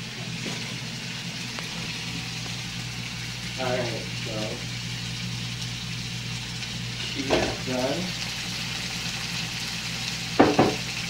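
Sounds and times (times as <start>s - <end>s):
patties sizzling in a skillet: 0.0s - 11.0s.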